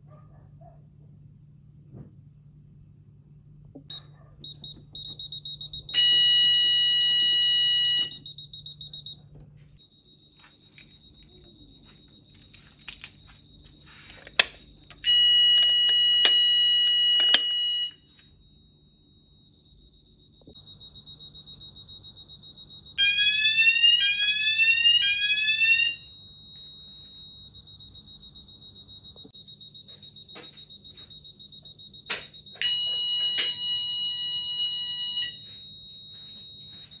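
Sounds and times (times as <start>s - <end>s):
fire alarm sounder: 3.8s - 37.0s.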